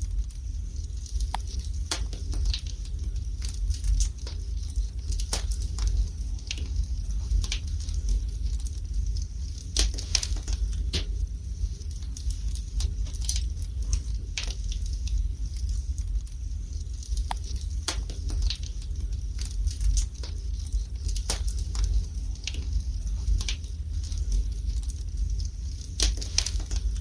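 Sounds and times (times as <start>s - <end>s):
fire crackling and popping: 0.0s - 27.0s
low rumble: 0.0s - 27.0s.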